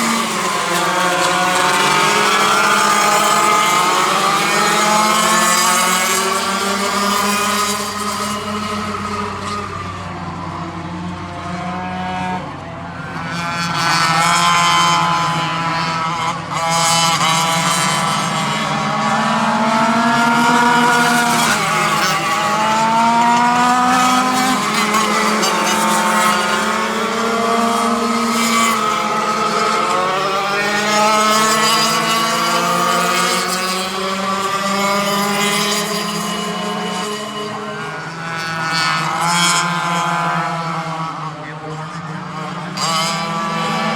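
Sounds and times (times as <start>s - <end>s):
racing kart engines revving: 0.0s - 43.9s.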